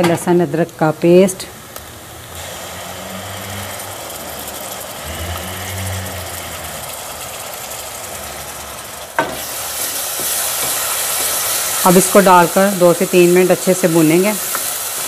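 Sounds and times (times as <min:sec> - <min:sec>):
onions frying in pot: 0:00.0 - 0:15.0.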